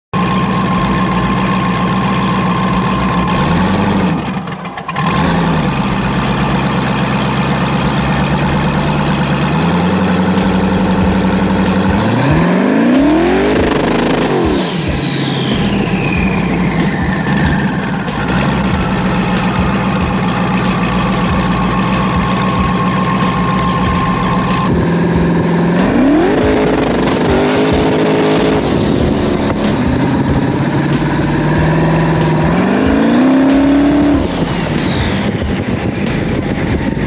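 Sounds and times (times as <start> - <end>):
truck engine revving: 0.1 - 37.0.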